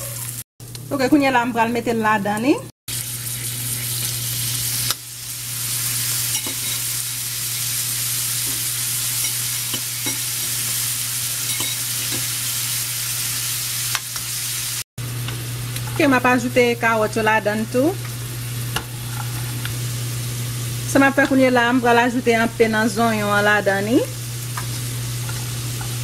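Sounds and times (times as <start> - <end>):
shrimp sizzling in oil: 2.9 - 26.0.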